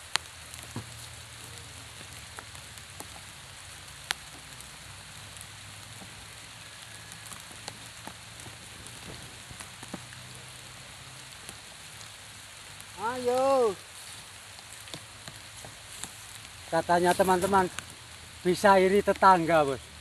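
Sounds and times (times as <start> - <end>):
rain falling on a pond: 0.0 - 20.0
raindrop ticks: 0.0 - 20.0.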